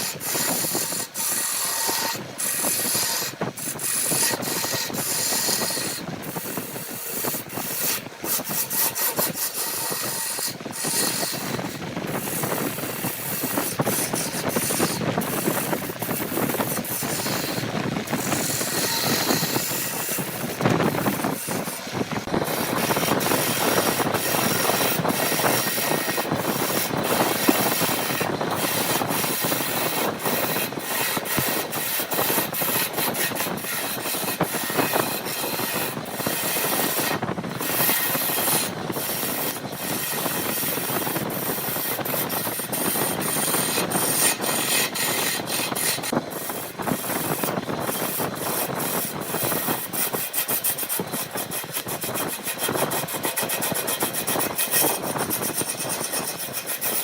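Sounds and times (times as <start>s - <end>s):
tools rasping wood: 0.0s - 57.0s.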